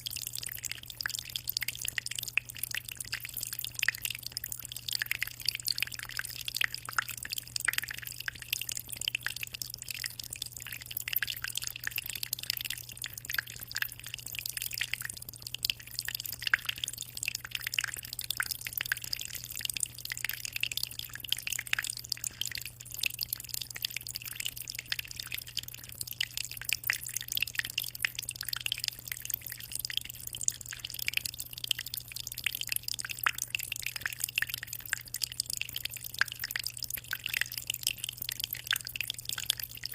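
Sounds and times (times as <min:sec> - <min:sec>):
aquarium water trickling and splashing: 0:00.0 - 0:39.9.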